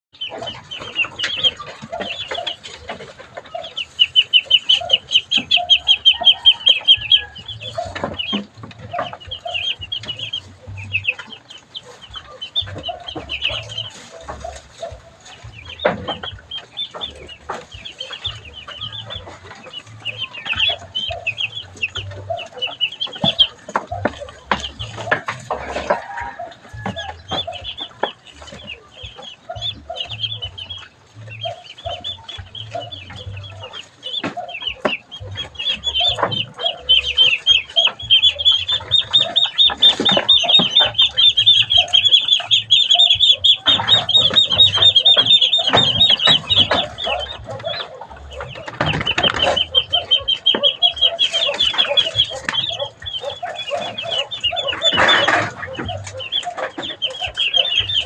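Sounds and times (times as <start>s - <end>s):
ducklings peeping: 0.1s - 58.0s.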